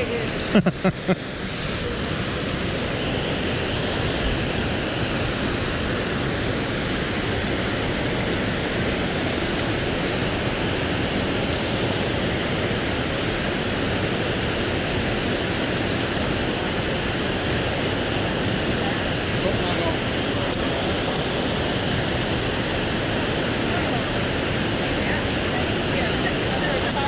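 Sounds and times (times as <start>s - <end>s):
river rapids: 0.0s - 27.0s
waterfall rushing: 0.0s - 27.0s.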